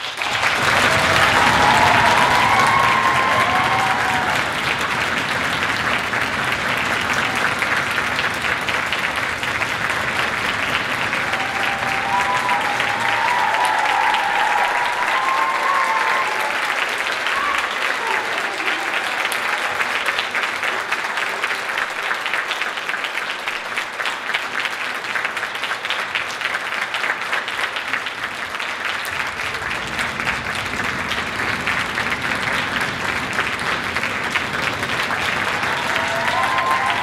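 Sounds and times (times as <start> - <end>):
audience applauding: 0.0 - 37.0.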